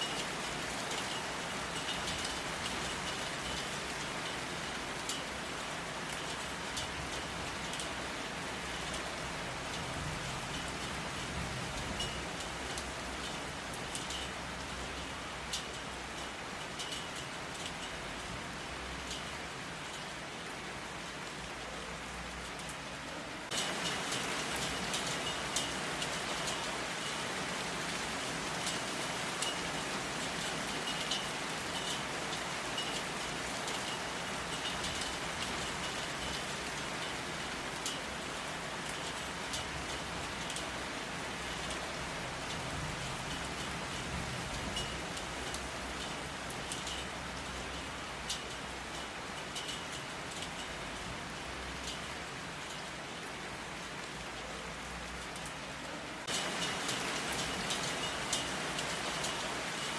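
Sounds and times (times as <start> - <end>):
rain drops ticking on surface: 0.0 - 59.9.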